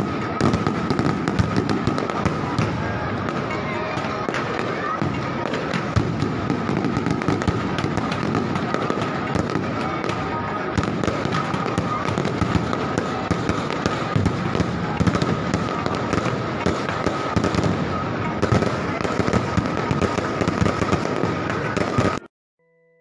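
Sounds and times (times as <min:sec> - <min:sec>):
fireworks crackling and popping: 0:00.0 - 0:22.3.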